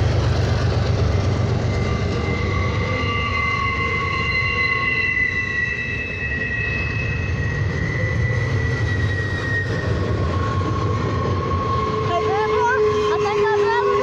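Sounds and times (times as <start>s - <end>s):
freight cars rumbling on rails: 0.0s - 14.0s
wheels squealing on rails: 0.0s - 14.0s.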